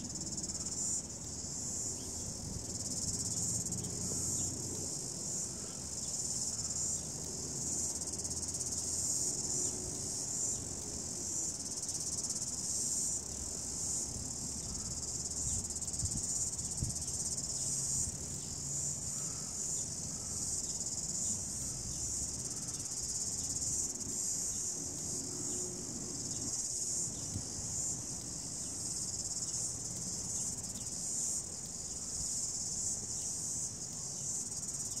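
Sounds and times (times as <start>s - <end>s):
high-pitched insect chorus: 0.0s - 35.0s.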